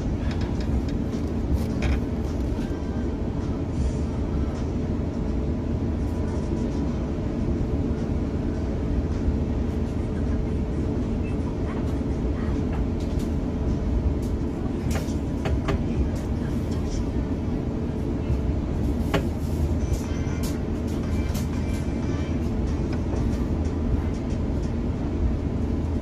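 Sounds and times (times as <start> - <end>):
airplane cabin low rumble: 0.0 - 26.0.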